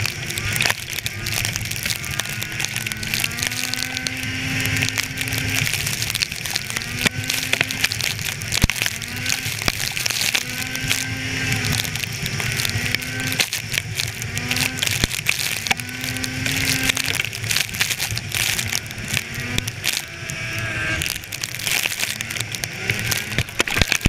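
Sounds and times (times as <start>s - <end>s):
sharp ticks: 0.0s - 24.0s
snowmobile engine revving: 0.0s - 24.0s.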